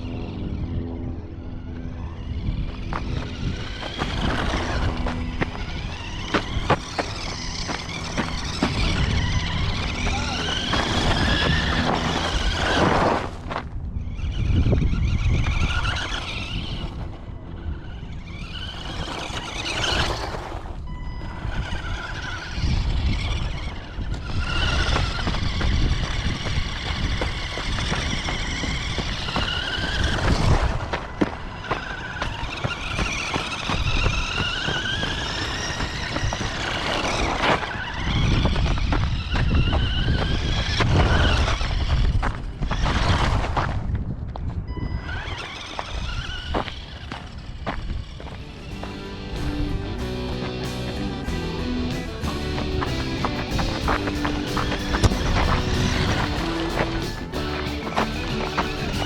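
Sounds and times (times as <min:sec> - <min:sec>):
electric motor and gears whining: 0:00.0 - 0:59.0
tyre and chassis rumble: 0:00.0 - 0:59.0.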